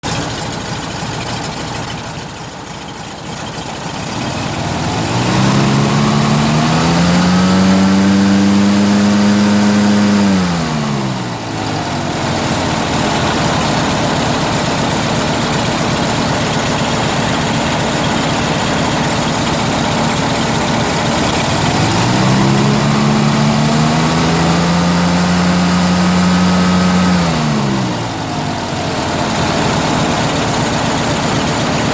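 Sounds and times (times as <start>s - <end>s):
engine revving: 3.8s - 31.9s.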